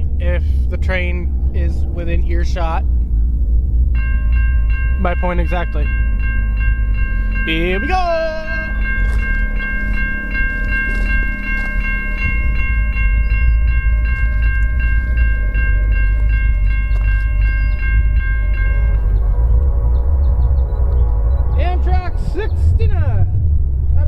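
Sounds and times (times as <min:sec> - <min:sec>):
crossing warning bell ringing: 0:00.0 - 0:22.9
passing train rumble: 0:00.0 - 0:24.0.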